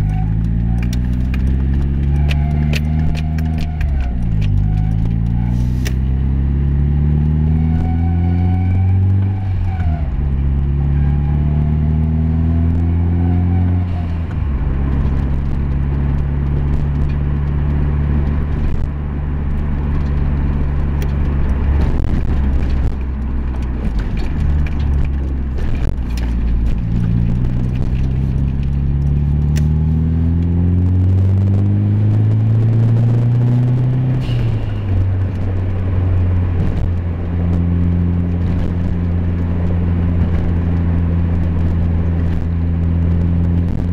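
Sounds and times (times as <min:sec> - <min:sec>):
vehicle engine while driving: 0:00.0 - 0:43.9.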